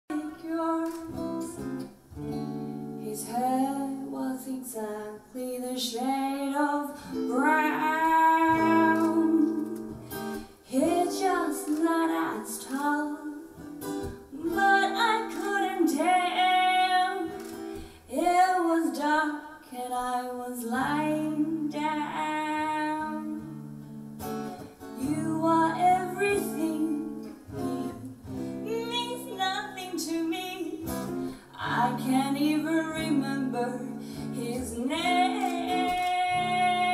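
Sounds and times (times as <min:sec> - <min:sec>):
woman singing into microphone: 0:00.1 - 0:01.7, 0:03.0 - 0:13.6, 0:14.3 - 0:23.6, 0:25.0 - 0:27.4, 0:28.6 - 0:36.9
acoustic guitar: 0:00.1 - 0:36.9.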